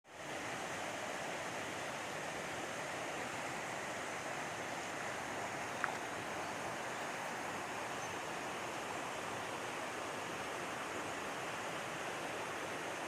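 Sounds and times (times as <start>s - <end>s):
river water rushing: 0.1s - 13.0s.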